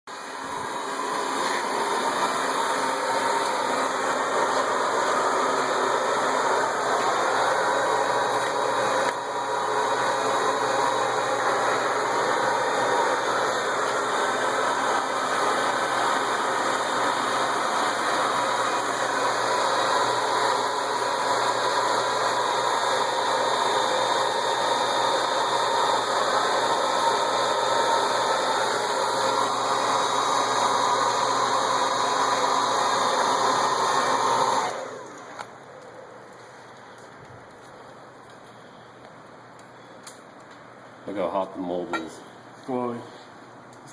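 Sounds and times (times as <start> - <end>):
hairdryer blowing air: 0.0 - 37.7.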